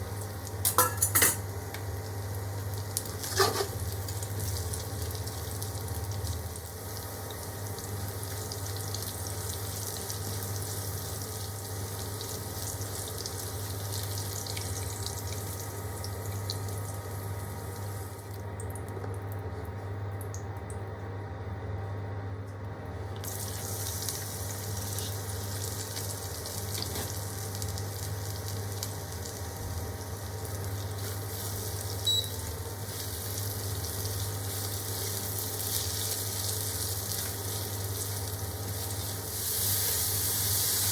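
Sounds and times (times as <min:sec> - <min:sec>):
vegetables sizzling in a pan: 0:00.0 - 0:18.3, 0:23.2 - 0:40.9.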